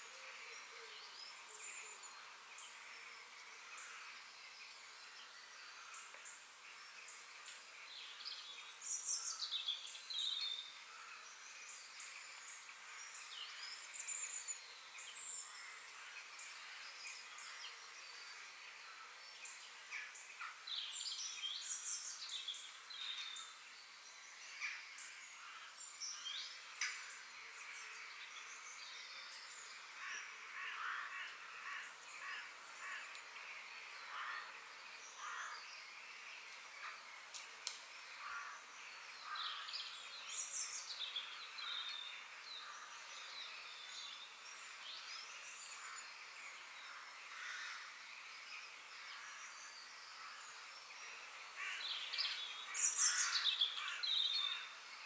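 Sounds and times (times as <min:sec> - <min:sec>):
steady high background hiss: 0:00.0 - 0:55.0
wild birds calling and chirping: 0:00.0 - 0:55.0.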